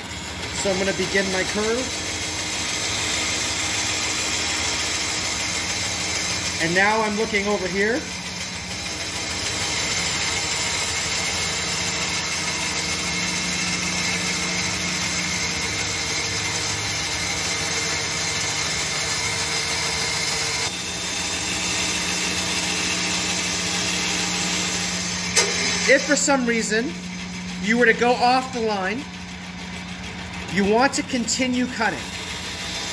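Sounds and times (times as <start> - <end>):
bandsaw cutting wood: 0.0 - 32.9
motor hum: 0.0 - 32.9.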